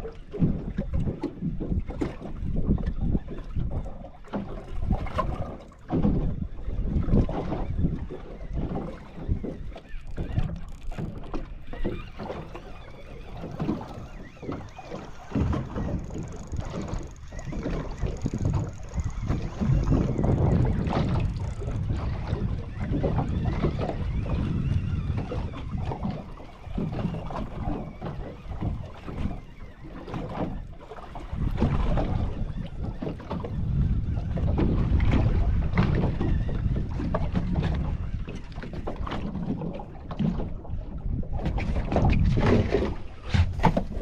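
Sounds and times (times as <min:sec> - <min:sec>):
water splashing against hull: 0:00.0 - 0:44.0
wind buffeting microphone: 0:00.0 - 0:44.0.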